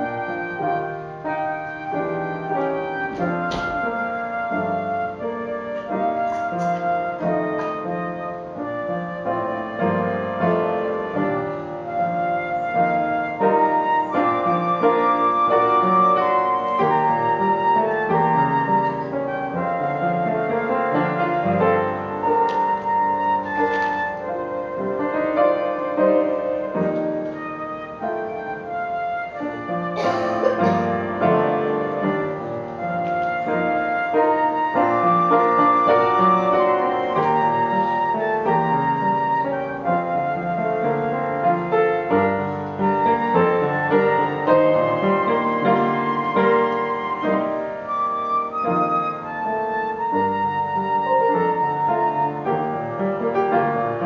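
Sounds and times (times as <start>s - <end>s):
instrumental music with held melody: 0.0s - 54.0s.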